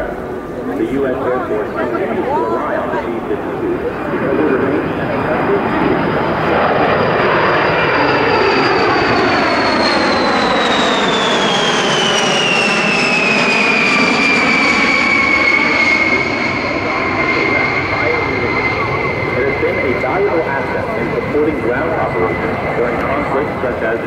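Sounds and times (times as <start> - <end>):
jet aircraft roar with whine: 0.0 - 24.0.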